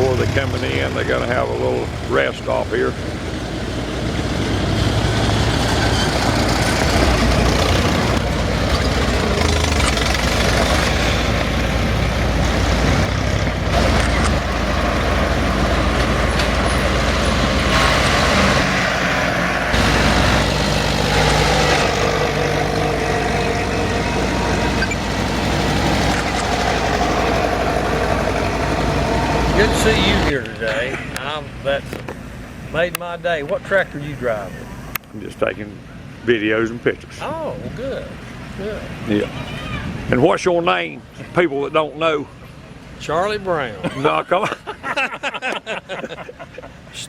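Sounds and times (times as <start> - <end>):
tractor engines driving past: 0.0 - 47.0.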